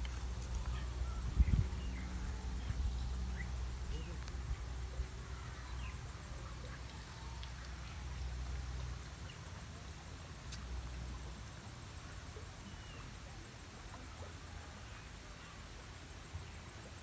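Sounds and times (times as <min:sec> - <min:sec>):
low uneven rumble: 0:00.0 - 0:17.0.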